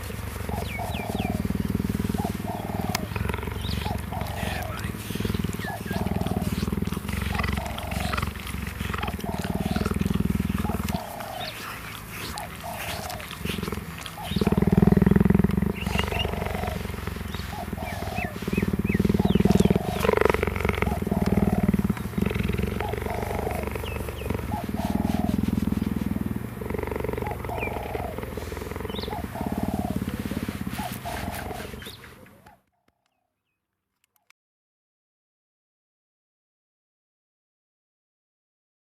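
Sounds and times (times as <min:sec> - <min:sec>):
cheetah purring: 0:00.0 - 0:32.7.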